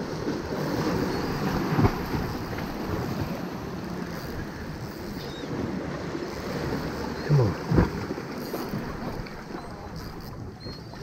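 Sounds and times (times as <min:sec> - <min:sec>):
waves splashing against rocks: 0:00.0 - 0:11.0.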